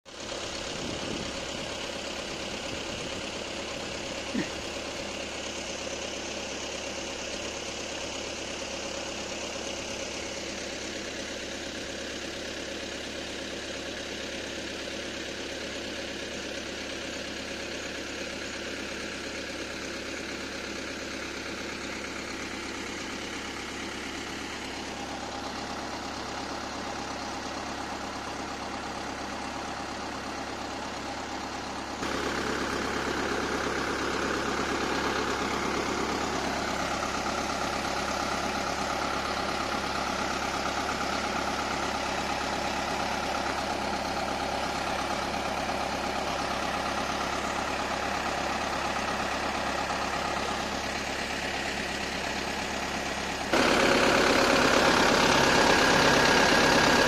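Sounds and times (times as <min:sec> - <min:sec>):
tractor diesel engine running: 0:00.1 - 0:57.0.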